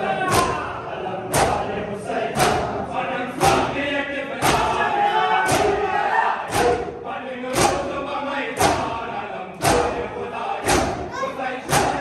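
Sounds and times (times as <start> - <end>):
many voices chanting: 0.0 - 12.0
men striking chests in unison: 0.2 - 12.0.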